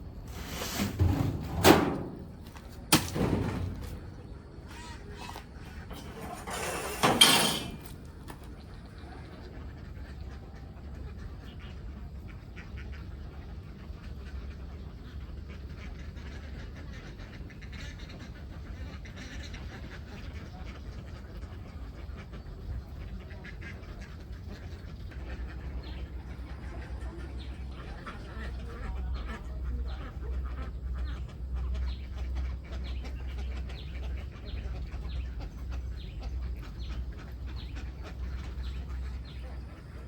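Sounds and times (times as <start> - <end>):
ducks quacking faintly: 0.0 - 40.0.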